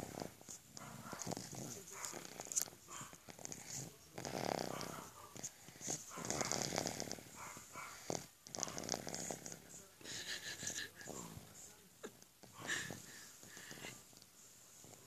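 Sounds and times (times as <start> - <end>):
dog snoring: 0.0 - 15.0.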